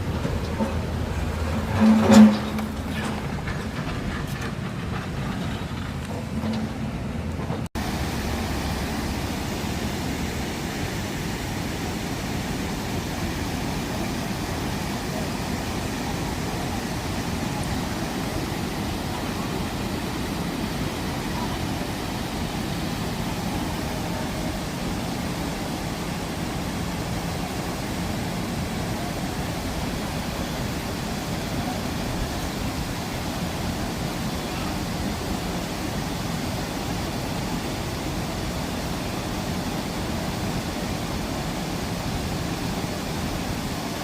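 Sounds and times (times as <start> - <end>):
steady rushing noise: 0.0 - 44.0.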